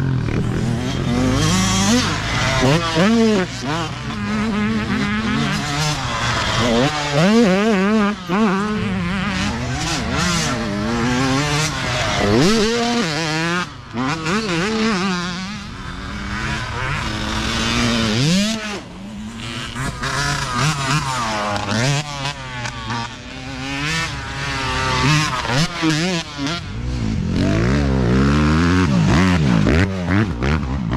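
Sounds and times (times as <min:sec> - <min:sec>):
dirt bike engines revving: 0:00.0 - 0:30.9.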